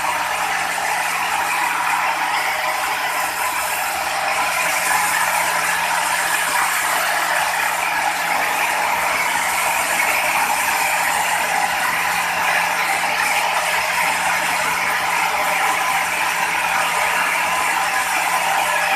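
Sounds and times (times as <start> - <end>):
sawmill machinery running: 0.0 - 18.9.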